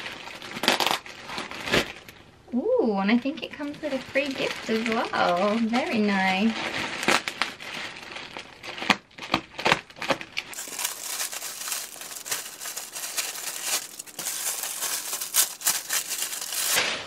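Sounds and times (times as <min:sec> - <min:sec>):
plastic packaging crinkling: 0:00.0 - 0:02.3, 0:03.2 - 0:17.0.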